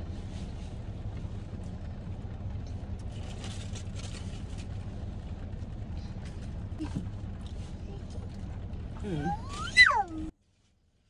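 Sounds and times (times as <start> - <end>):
car cabin hum: 0.0 - 10.4.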